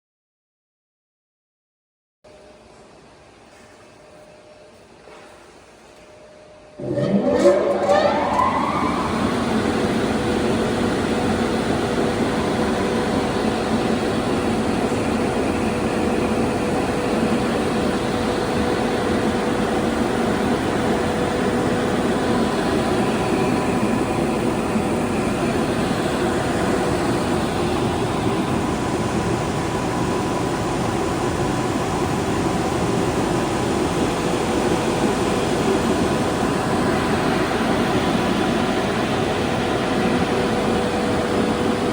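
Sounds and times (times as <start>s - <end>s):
glass washing machine running: 6.8s - 41.9s.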